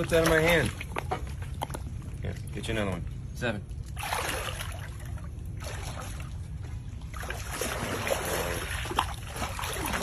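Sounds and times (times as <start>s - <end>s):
steady low rumble: 0.0s - 10.0s
water sloshing and splashing: 0.0s - 10.0s.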